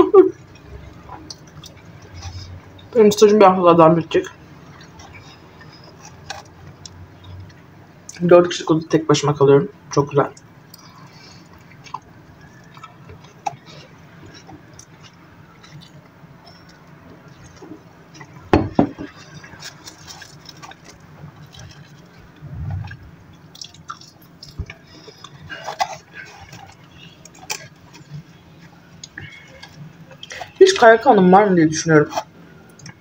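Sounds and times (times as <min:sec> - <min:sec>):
crunchy chewing: 0:00.3 - 0:03.0, 0:04.2 - 0:08.2, 0:10.3 - 0:30.8.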